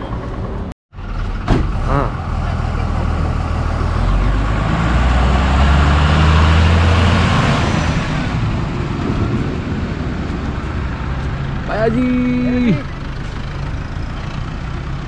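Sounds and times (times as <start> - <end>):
bus driving past: 0.0 - 15.0
roadside traffic noise: 0.0 - 15.0.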